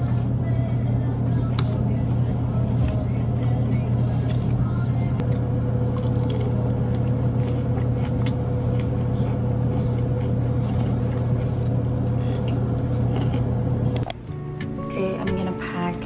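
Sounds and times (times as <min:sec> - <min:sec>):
kitchen appliance motor hum: 0:00.0 - 0:15.6.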